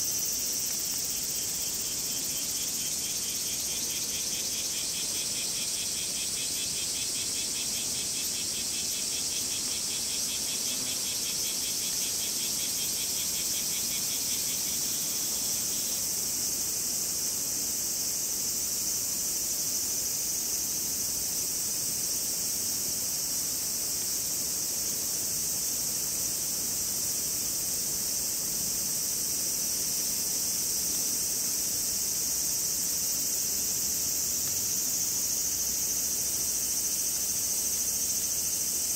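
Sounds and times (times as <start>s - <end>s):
cicadas chorus: 0.0s - 38.9s.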